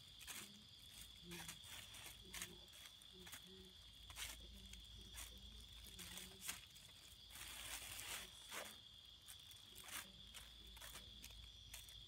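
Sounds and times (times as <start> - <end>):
night insects chirring: 0.0 - 12.0
plastic bags crinkling: 0.0 - 12.0.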